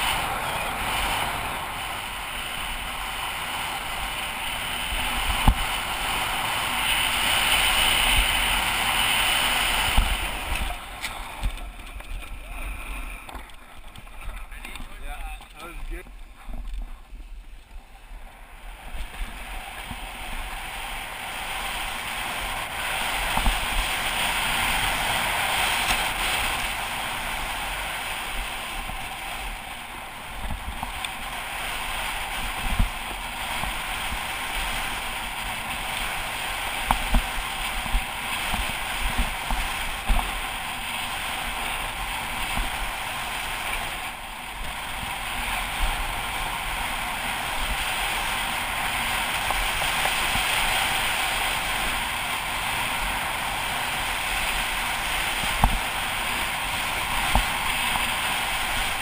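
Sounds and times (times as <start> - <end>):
skis carving over snow: 0.0 - 59.0.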